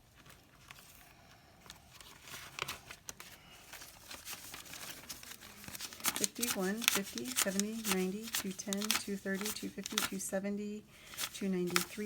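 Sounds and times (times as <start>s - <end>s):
paper bills rustling: 0.0s - 12.0s.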